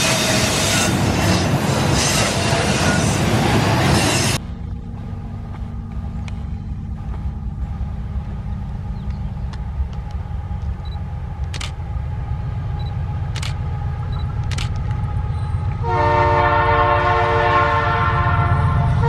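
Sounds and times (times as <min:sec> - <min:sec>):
diesel locomotive engine rumbling: 0:00.0 - 0:19.0.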